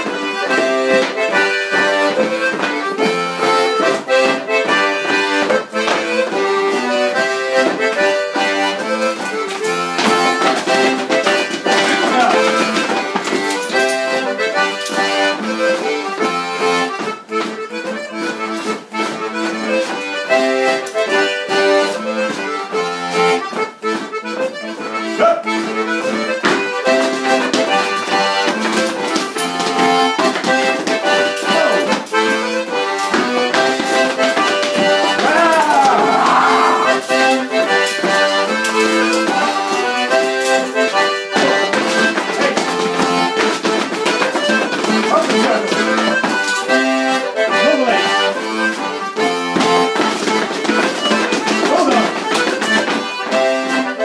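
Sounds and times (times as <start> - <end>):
lively traditional dance tune: 0.0 - 54.0.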